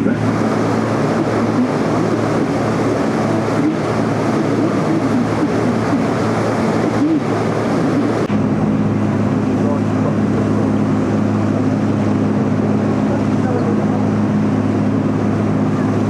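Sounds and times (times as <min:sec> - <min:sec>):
boat engine humming: 0:00.0 - 0:16.0
wind and water rushing: 0:00.0 - 0:16.0.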